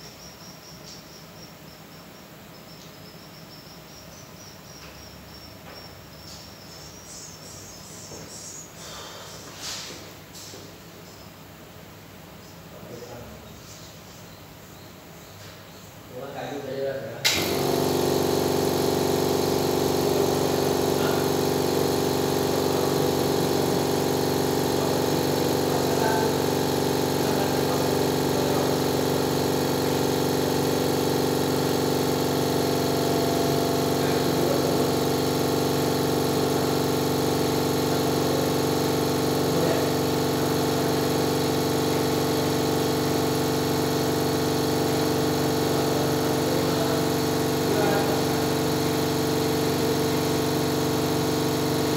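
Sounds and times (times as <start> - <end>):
motor droning steadily: 0.0 - 9.5, 16.2 - 51.9.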